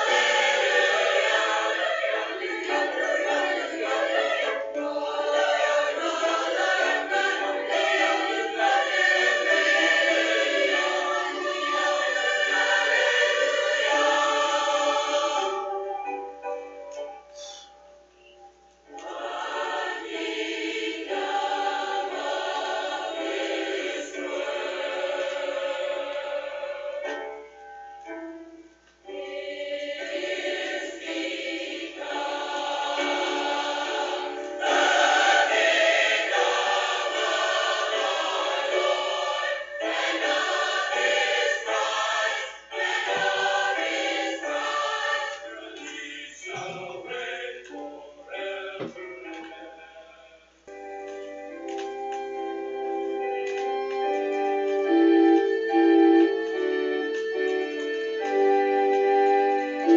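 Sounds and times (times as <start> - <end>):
choir singing: 0.0 - 16.6, 18.2 - 27.4, 29.0 - 59.9.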